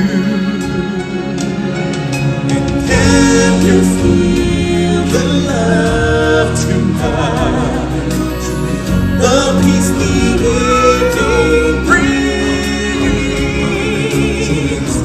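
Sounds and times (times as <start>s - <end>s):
instrumental accompaniment: 0.0s - 15.0s
singers with vibrato: 2.8s - 15.0s.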